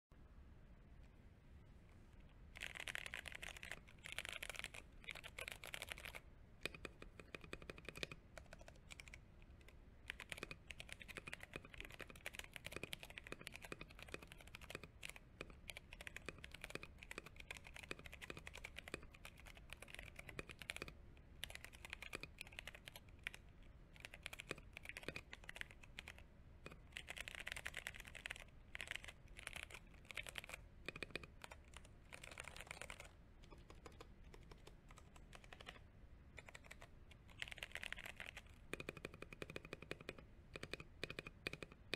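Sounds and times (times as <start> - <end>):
mechanical keyboard typing: 2.6 - 35.8, 36.4 - 41.9.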